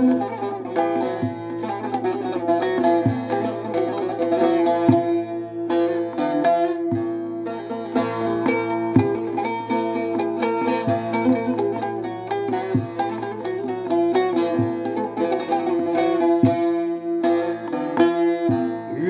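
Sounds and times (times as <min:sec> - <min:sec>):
plucked long-necked lute melody: 0:00.0 - 0:19.0.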